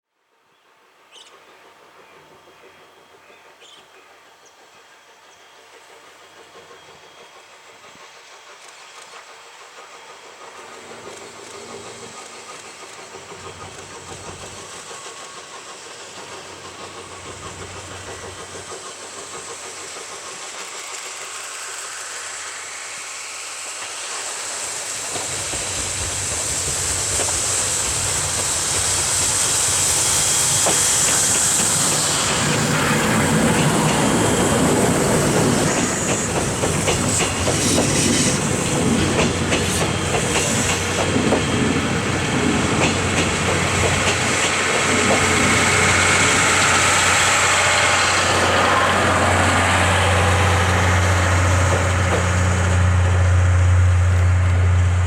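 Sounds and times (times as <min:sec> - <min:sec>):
steam locomotive hissing: 0:01.0 - 0:55.0.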